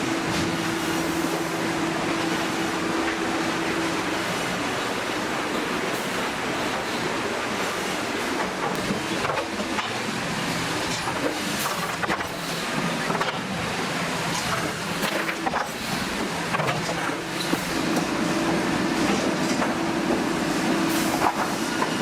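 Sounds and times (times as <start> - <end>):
sawmill machinery running: 0.0 - 22.0.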